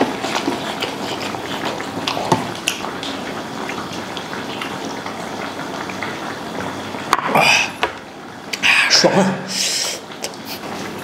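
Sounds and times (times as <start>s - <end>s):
broth bubbling in a pot: 0.0s - 11.0s.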